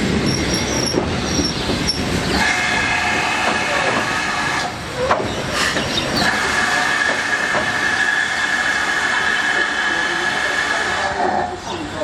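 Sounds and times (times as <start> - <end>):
train hissing running noise: 0.0 - 12.0
steam train high-pitched squeal: 0.2 - 4.7, 5.6 - 11.5.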